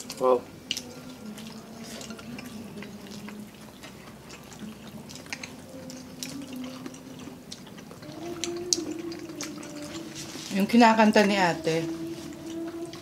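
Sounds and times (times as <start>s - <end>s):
faint background song: 0.0s - 13.0s
wet mouth sounds: 0.0s - 13.0s.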